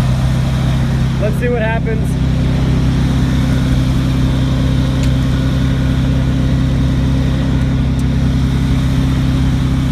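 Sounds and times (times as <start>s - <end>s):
engine idling steadily: 0.0s - 9.9s.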